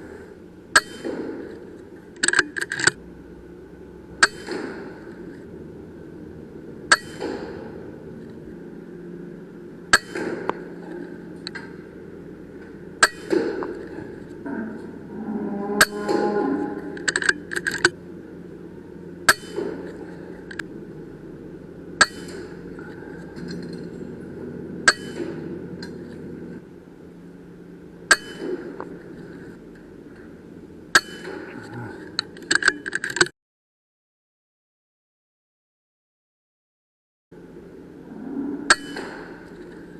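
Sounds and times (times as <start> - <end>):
low hum: 0.0 - 33.2, 37.3 - 39.9.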